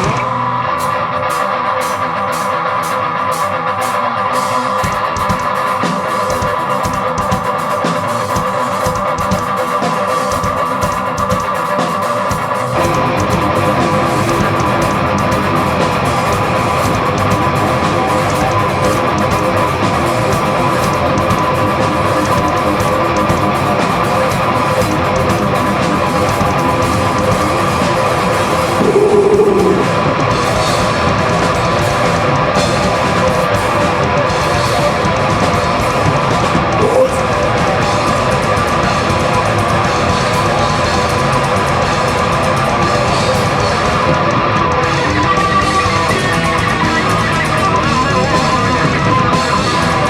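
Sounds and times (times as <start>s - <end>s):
heavy metal band playing live: 0.0s - 50.0s.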